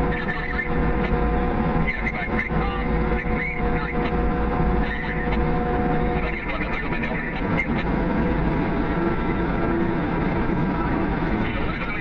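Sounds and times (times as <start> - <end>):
diesel engine rumble: 0.0 - 12.0
steady machine whine: 0.0 - 12.0.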